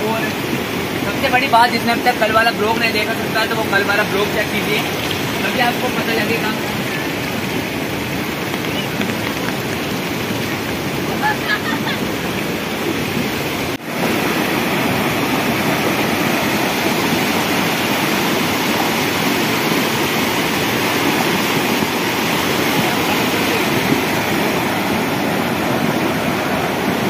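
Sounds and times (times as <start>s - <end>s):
flooded stream rushing over boulders: 0.0s - 27.0s.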